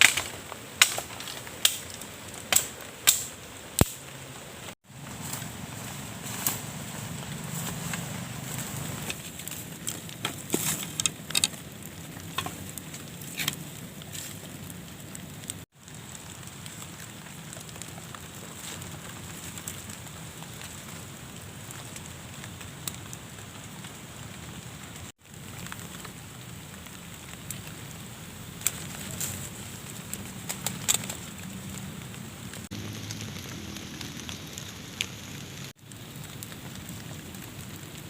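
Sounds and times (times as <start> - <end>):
sharp crackles and pops: 0.0 - 38.0
heavy rain hissing: 2.0 - 9.8, 13.1 - 38.0.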